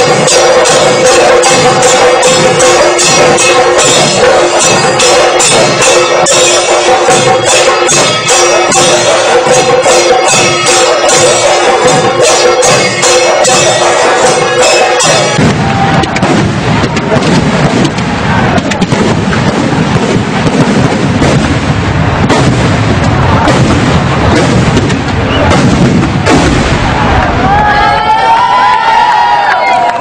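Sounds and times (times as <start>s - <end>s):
firecrackers crackling: 0.0s - 28.4s
drums: 0.0s - 30.0s.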